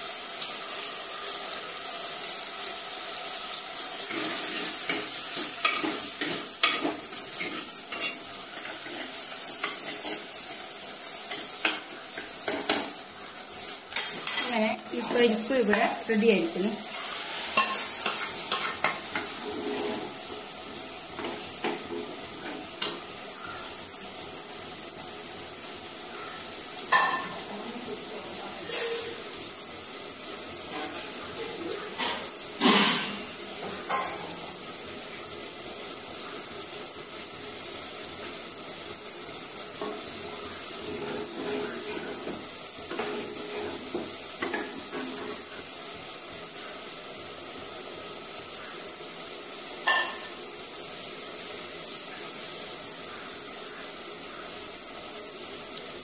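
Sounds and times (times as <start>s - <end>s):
curry sizzling in pots: 0.0s - 56.0s.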